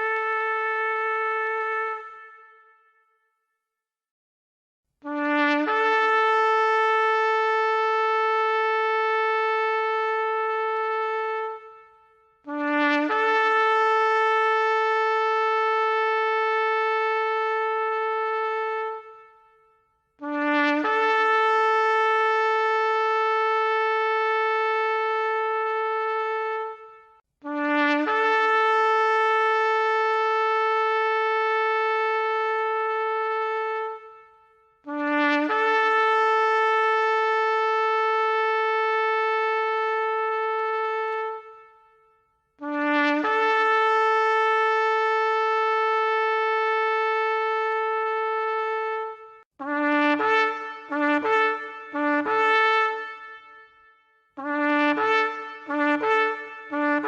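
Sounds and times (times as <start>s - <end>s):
shofar blasts: 0.0s - 3.0s, 5.1s - 42.0s, 42.6s - 57.0s.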